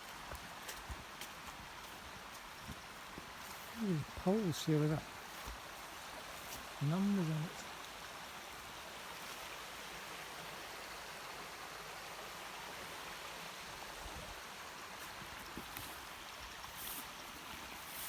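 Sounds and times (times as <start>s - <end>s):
small stream flowing: 0.0s - 18.0s.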